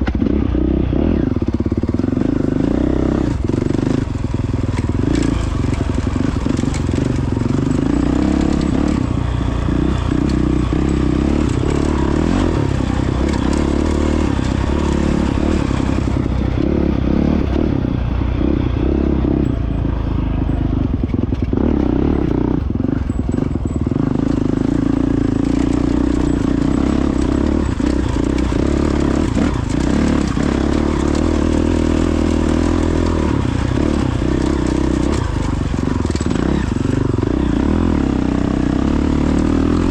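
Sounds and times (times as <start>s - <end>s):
motorcycle engine running: 0.0s - 39.9s
gravel clattering under tyres: 1.4s - 39.9s.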